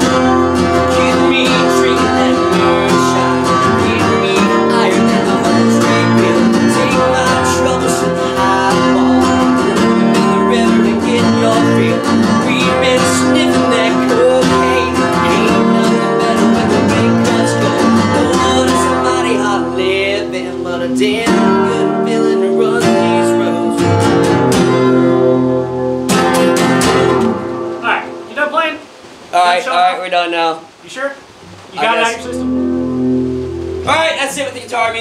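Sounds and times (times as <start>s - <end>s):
acoustic guitar strumming: 0.0s - 30.1s, 31.2s - 35.0s.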